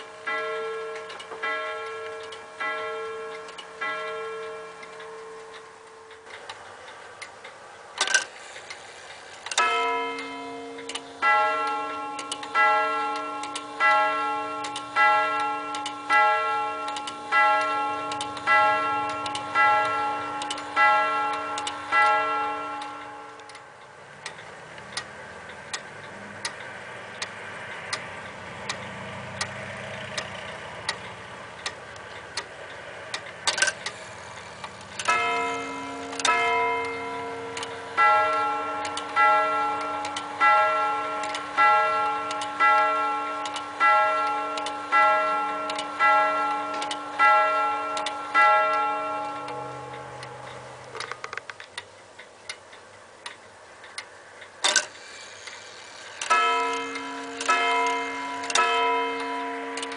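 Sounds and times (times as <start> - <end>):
clock striking gong rods: 0.0 - 8.8, 9.4 - 52.7, 53.3 - 59.9
clock ticking: 0.0 - 59.9.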